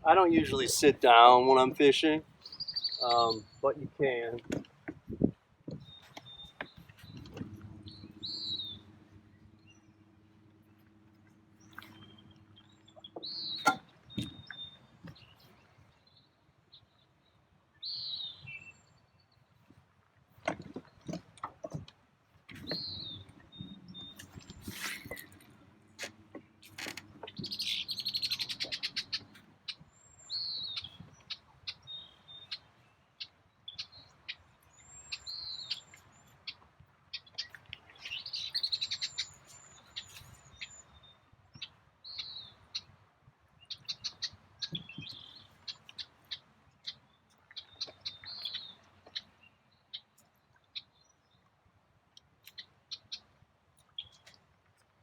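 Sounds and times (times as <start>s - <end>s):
birds chirping: 0.0s - 19.3s, 22.5s - 42.9s, 43.6s - 51.5s.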